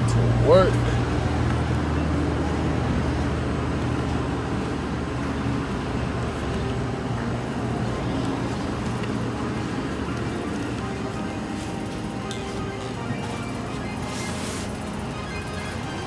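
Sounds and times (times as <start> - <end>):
car engine humming: 0.0 - 16.0
road noise: 0.0 - 16.0.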